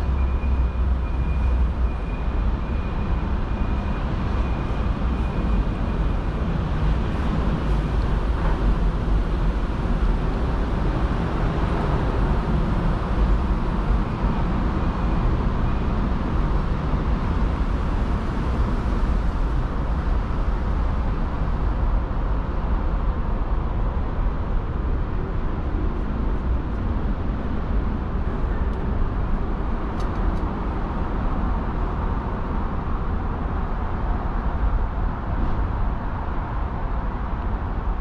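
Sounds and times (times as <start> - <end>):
distant city traffic rumble: 0.0 - 38.0.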